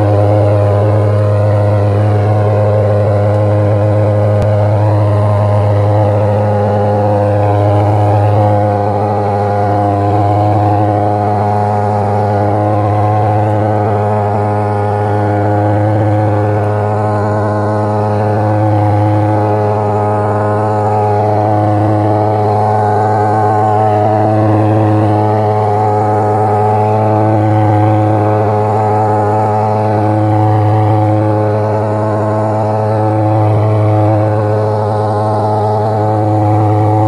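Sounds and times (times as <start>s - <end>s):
thermal fogger buzzing drone: 0.0s - 37.0s.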